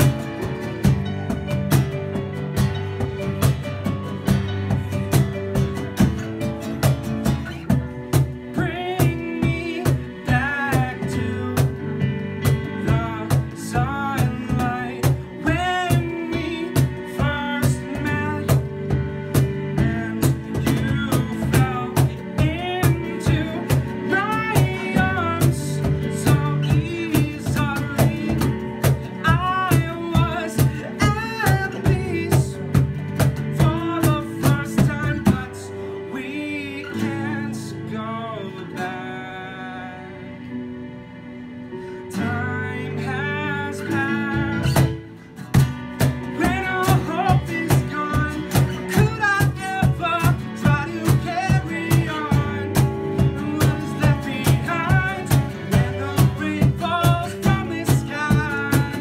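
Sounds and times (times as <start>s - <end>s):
cajon beat: 0.0s - 35.8s, 43.9s - 59.0s
keyboard piano: 0.0s - 59.0s
strummed acoustic guitar: 0.0s - 59.0s
man singing: 8.3s - 40.4s, 42.1s - 45.1s, 46.2s - 59.0s.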